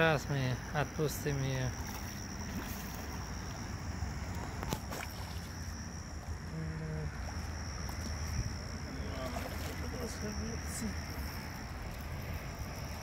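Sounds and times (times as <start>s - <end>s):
steady low rumble: 1.6s - 13.0s.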